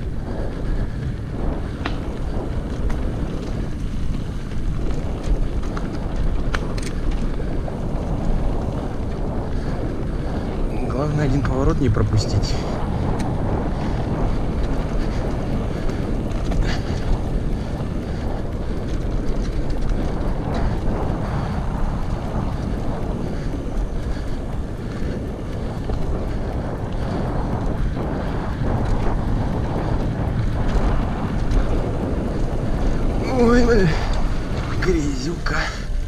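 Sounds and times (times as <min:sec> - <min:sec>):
bike rattles: 0:00.0 - 0:36.0
bike tyre rumble: 0:00.0 - 0:36.0
wind rushing over microphone: 0:00.0 - 0:36.0.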